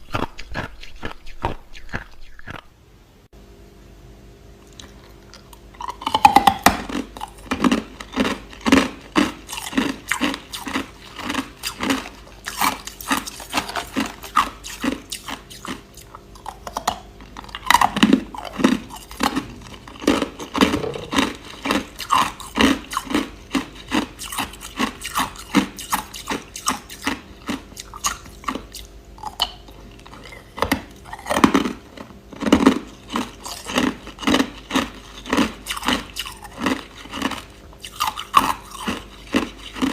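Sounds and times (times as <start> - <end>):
crushed ice being chewed: 0.0 - 2.6, 4.6 - 39.9.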